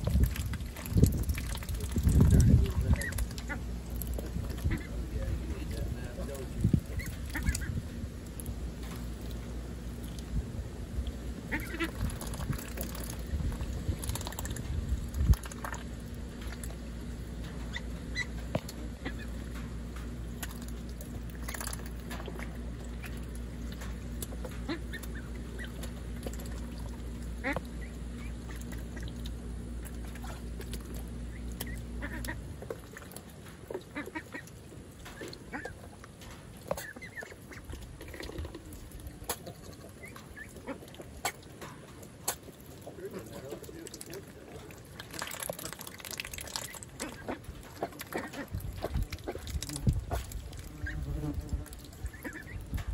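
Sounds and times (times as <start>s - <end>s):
ducks splashing in water: 0.0s - 52.9s
steady low hum: 0.0s - 52.9s
young ducks quacking: 0.1s - 8.9s, 11.4s - 14.5s, 17.5s - 19.7s, 20.4s - 36.0s, 36.6s - 41.6s, 42.2s - 52.9s.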